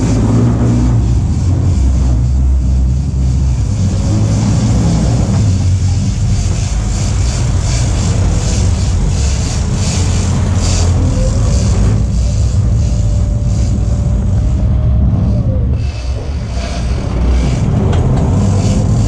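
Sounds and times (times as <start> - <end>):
boat engines humming: 0.0 - 19.0.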